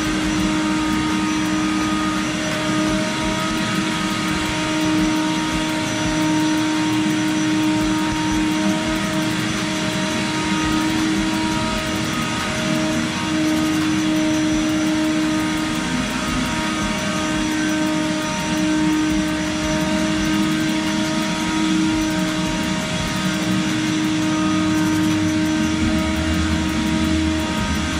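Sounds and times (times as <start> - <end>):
motor whine: 0.0 - 27.9.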